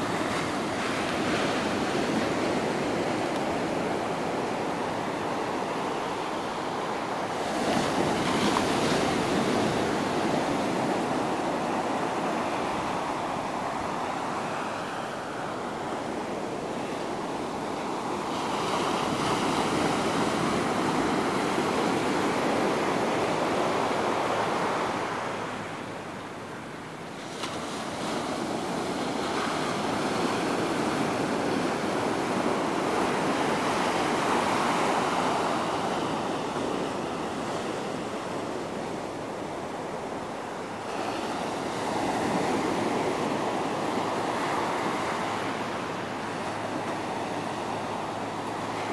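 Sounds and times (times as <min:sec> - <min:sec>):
ocean surf breaking on beach: 0:00.0 - 0:48.9.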